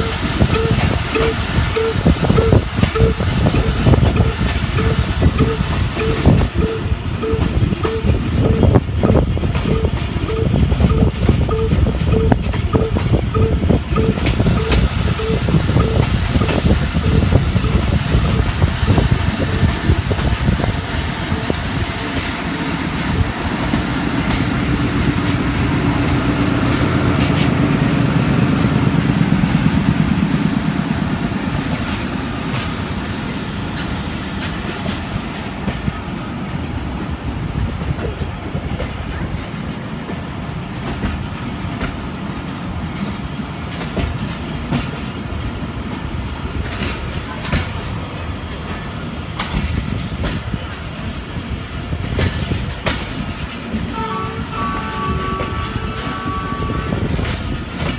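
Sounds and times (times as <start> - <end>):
locomotive engine drone: 0.0 - 57.9.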